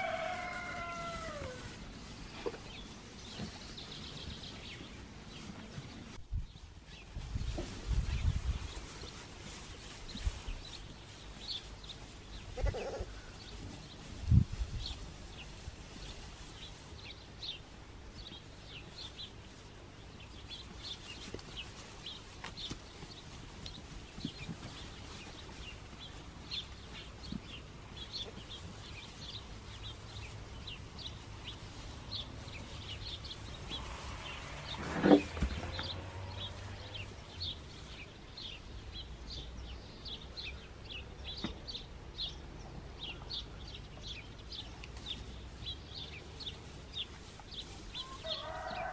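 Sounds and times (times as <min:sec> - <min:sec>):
small birds chirping: 0:02.0 - 0:48.9.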